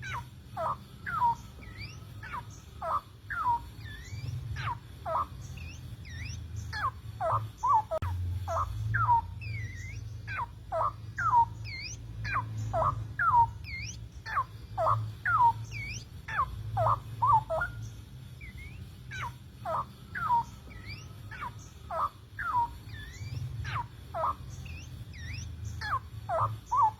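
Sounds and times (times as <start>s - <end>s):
bird calling with swooping notes: 0.0s - 26.9s
faint high chirps: 0.0s - 26.9s
low steady hum: 0.0s - 26.9s.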